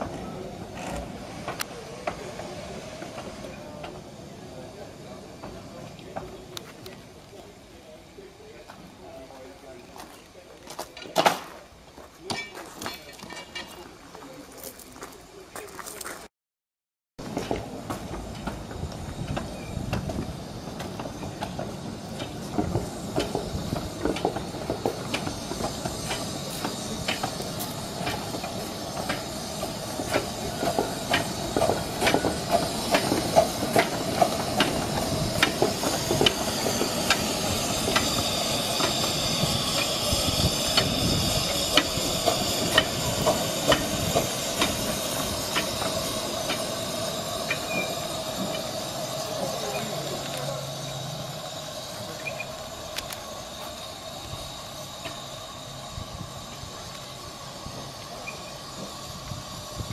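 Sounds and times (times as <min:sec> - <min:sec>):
train wheels clicking over rail joints: 0:00.0 - 0:07.5, 0:08.6 - 0:14.0, 0:17.2 - 0:59.9
locomotive hissing steam: 0:00.0 - 0:15.6, 0:17.2 - 0:59.9.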